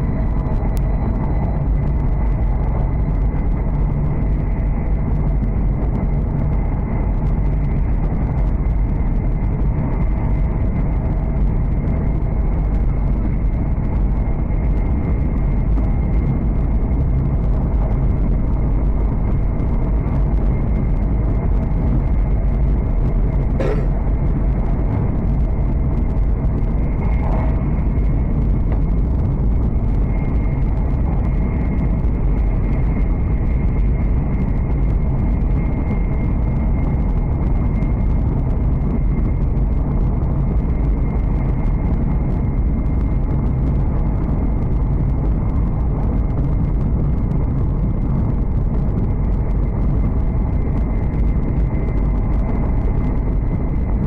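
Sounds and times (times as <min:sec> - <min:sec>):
train rumble inside cabin: 0:00.0 - 0:54.0.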